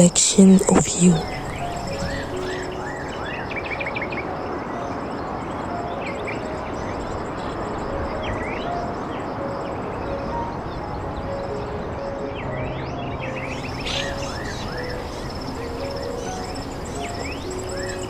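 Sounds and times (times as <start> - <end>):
small birds chirping: 0.0 - 18.0
steady rushing background noise: 0.0 - 18.0.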